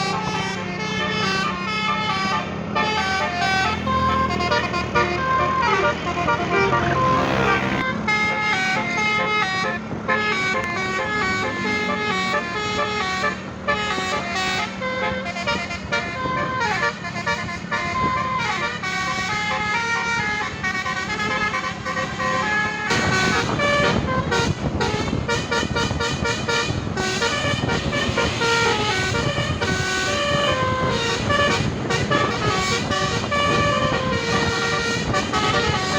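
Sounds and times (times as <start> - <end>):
bus engine rumble: 0.0 - 35.9
musical bus horn melody: 0.0 - 35.9.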